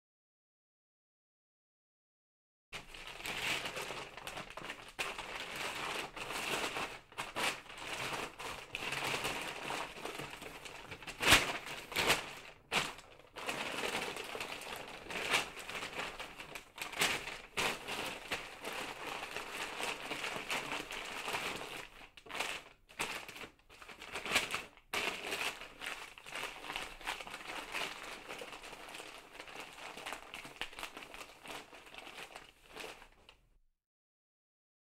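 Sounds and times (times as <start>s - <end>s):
wrapping paper rustling and crinkling: 2.8s - 33.5s.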